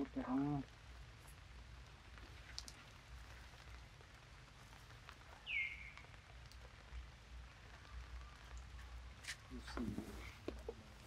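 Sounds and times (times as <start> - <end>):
water drips: 0.0 - 11.0.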